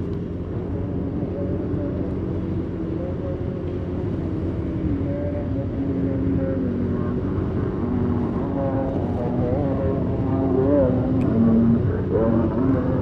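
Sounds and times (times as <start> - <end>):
road noise rumble: 0.0 - 13.0
vehicle engine running: 0.0 - 13.0.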